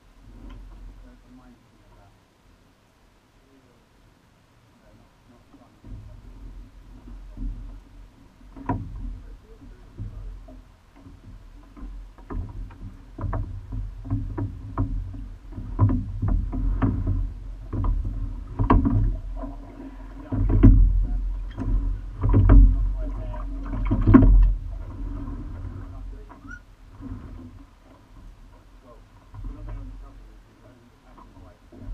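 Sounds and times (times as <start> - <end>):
water noise: 0.0 - 31.9
oars clicking and knocking: 5.5 - 31.9
low rumble: 5.7 - 31.9.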